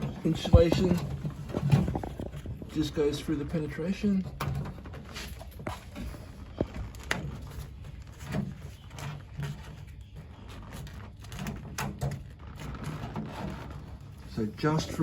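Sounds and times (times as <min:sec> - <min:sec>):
knocks clicks and rubbing of tubing: 0:00.0 - 0:15.0.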